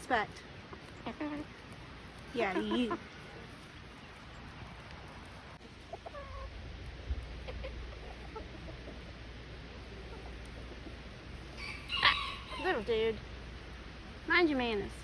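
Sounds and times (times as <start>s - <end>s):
chickens clucking: 0.1s - 14.2s.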